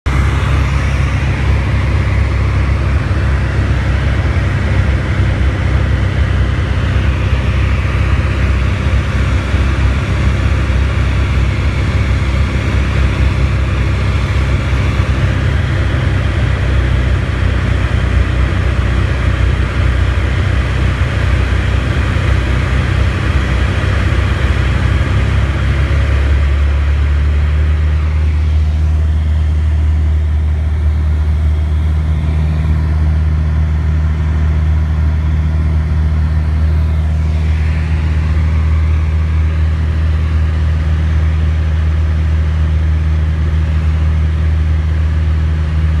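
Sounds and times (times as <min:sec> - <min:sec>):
light aircraft engine droning: 0:00.1 - 0:46.0.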